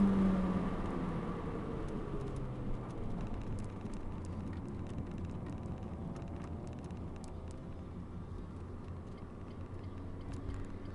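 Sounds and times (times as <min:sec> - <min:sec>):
car engine and road noise: 0:00.0 - 0:10.9.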